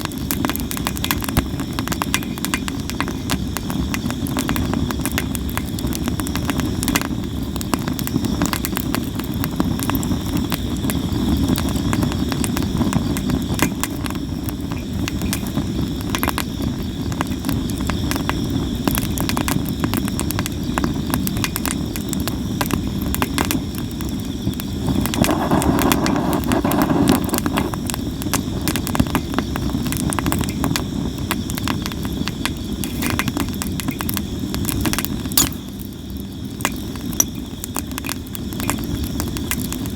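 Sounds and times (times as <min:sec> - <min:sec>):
campfire crackling and popping: 0:00.0 - 0:39.9
flame rushing: 0:00.0 - 0:39.9
insects trilling: 0:00.0 - 0:39.9.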